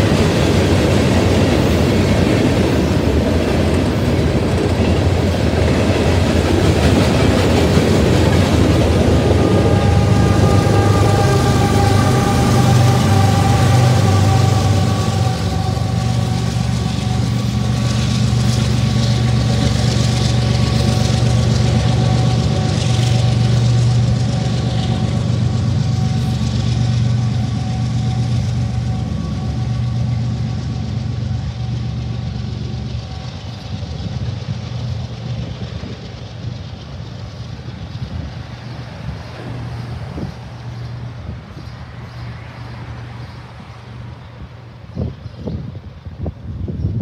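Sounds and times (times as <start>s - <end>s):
wheel and rail hiss: 0.0s - 46.9s
locomotive diesel engines droning: 0.0s - 47.0s.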